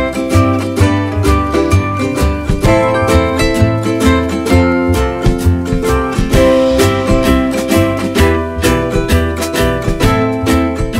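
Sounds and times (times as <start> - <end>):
bass line: 0.0 - 10.9
steady beat: 0.0 - 10.9
strummed plucked strings: 0.0 - 10.9.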